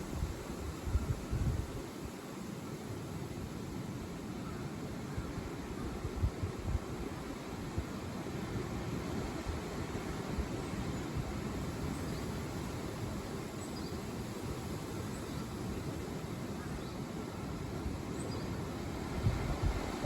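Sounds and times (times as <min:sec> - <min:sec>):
rustling leaves: 0:00.0 - 0:20.0
wind through trees: 0:00.0 - 0:20.0.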